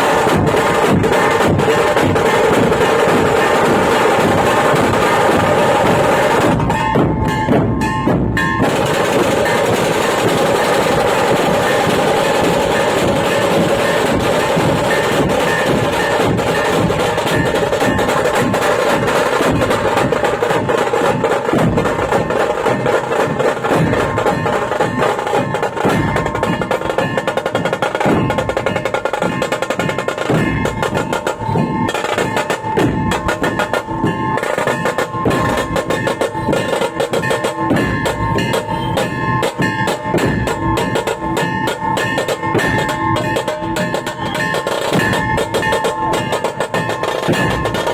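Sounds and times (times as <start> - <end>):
fast drum rolls: 0.0 - 47.9.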